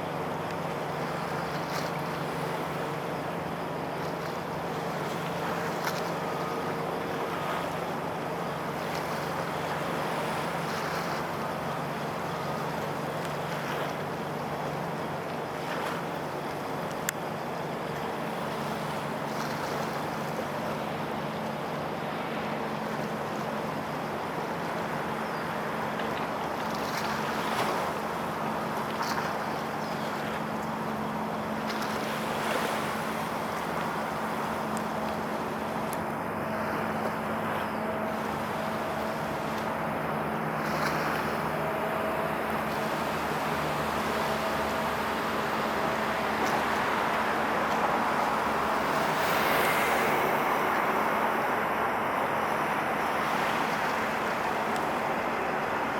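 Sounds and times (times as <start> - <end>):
low engine drone: 0.0 - 55.9
waterside ambience: 0.0 - 55.9.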